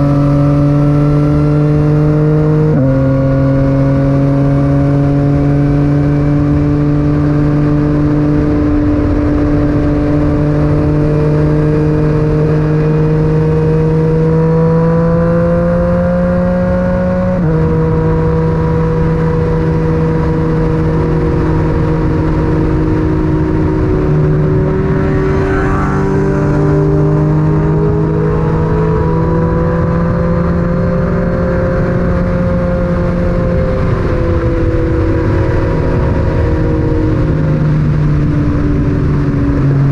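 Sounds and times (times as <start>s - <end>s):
low wind rumble: 0.0s - 39.9s
motorcycle engine: 0.0s - 39.9s.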